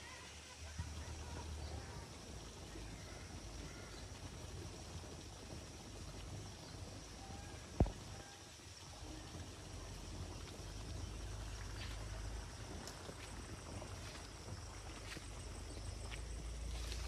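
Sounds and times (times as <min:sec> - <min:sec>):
low steady rumble: 0:00.8 - 0:17.0.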